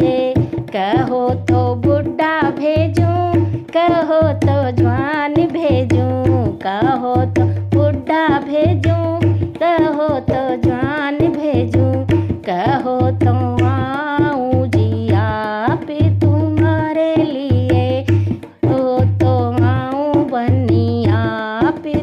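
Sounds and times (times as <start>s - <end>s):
steady hand-drum beat: 0.0s - 22.0s.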